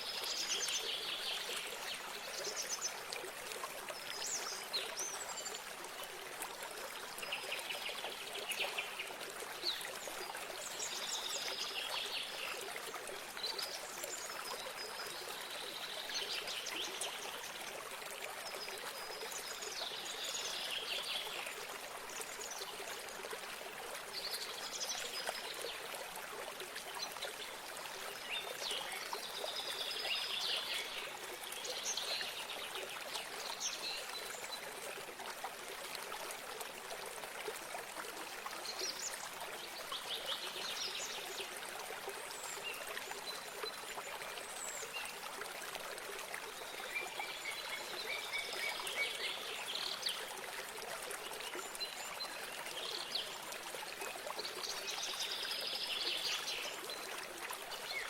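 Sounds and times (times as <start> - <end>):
small stream running: 0.0 - 58.0.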